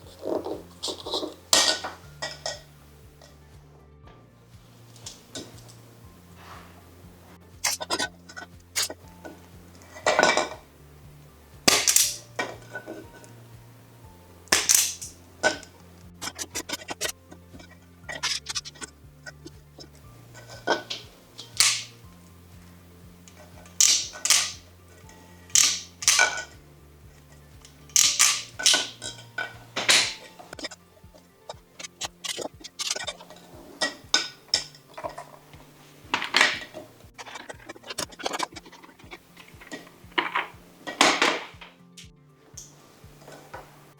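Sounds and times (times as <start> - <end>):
small hard parts clicking: 0.0 - 3.4, 7.5 - 10.7, 11.6 - 13.4, 14.4 - 43.8
background music with bass line: 0.0 - 43.9.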